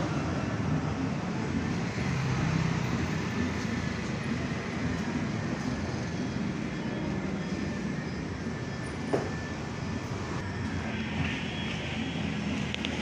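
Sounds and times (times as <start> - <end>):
low rumble of vehicle: 0.0 - 13.0.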